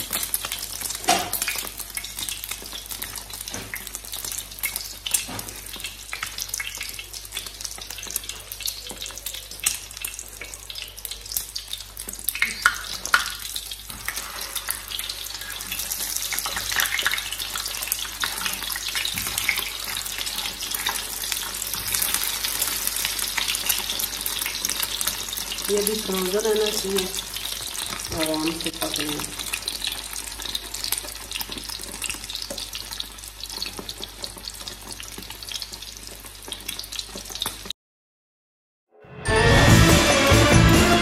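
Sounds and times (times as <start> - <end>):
kebabs sizzling and spitting in oil: 0.0 - 37.7.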